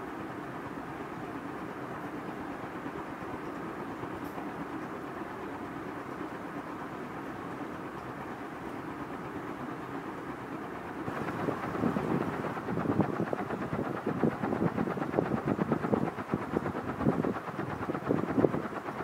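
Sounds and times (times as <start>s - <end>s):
ceiling fan rushing air: 0.0s - 19.0s.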